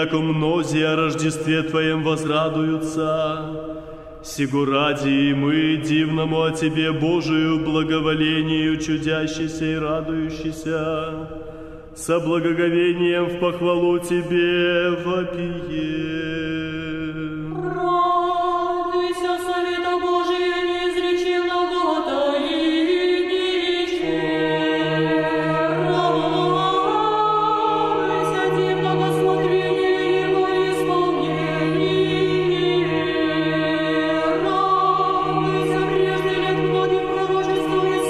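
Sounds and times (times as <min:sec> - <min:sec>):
choir singing a slow chant: 0:00.0 - 0:38.0.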